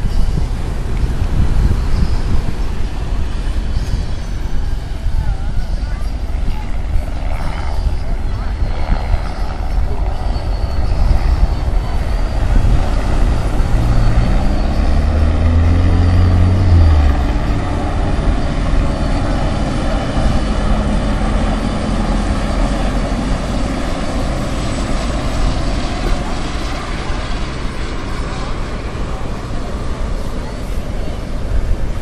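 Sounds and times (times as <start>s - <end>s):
helicopter flying past: 0.0s - 32.0s.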